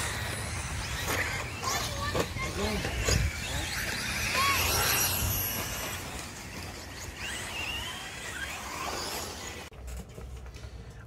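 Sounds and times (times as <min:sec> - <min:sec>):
electric motor whining: 0:00.0 - 0:09.7.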